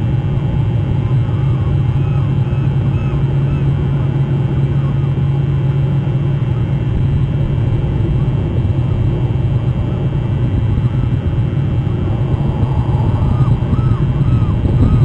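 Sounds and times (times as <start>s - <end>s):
steady low rumble: 0.0s - 15.0s
gulls calling: 0.4s - 6.9s, 8.1s - 15.0s.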